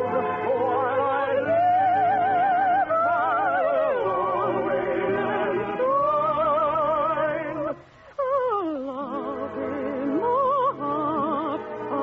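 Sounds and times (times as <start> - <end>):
person singing operetta: 0.0 - 12.0.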